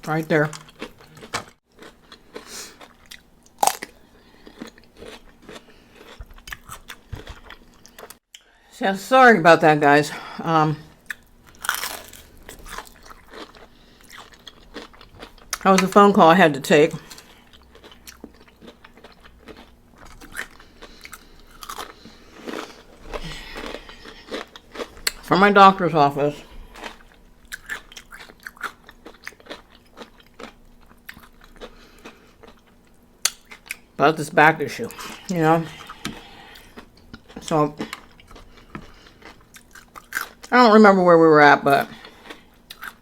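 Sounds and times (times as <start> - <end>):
crunchy chewing of fried chicken: 0.4 - 8.2, 10.9 - 15.9, 16.9 - 33.9, 34.8 - 40.6, 41.7 - 43.0.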